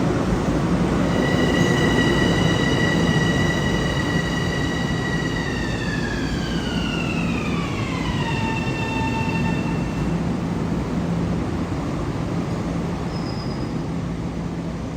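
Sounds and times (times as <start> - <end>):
electric train whine: 0.0 - 14.0
train rumble: 0.0 - 14.9.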